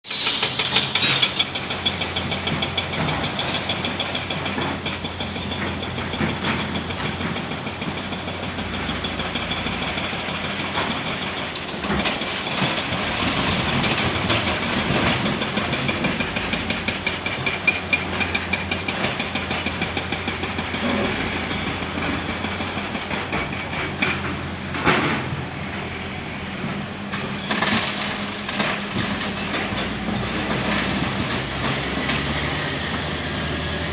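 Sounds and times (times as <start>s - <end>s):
heavy diesel engines running: 0.1s - 33.9s.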